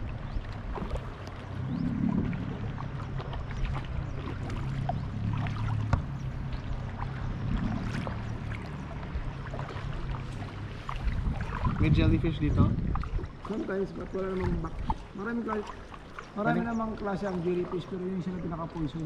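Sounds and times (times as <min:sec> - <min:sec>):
water splashing and dripping: 0:00.0 - 0:19.0.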